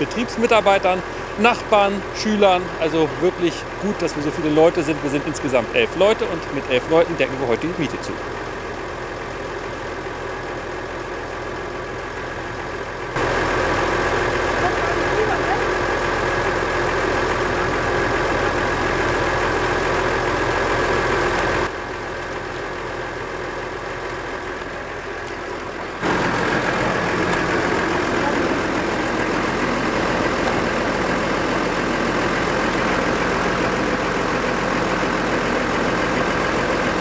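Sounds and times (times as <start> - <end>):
tractor engine idling: 0.0 - 37.0.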